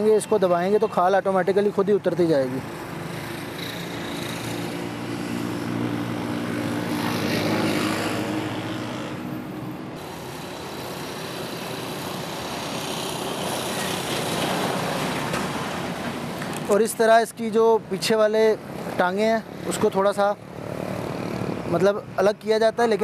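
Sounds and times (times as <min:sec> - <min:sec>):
broad rushing noise: 0:01.4 - 0:23.0.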